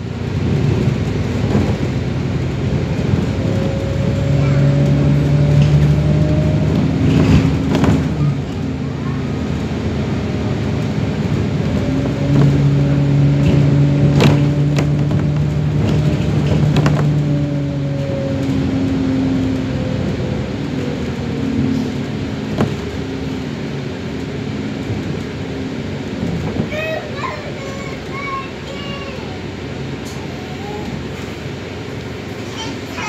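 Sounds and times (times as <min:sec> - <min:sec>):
bus engine drone: 0:00.0 - 0:33.0
road noise: 0:00.0 - 0:33.0.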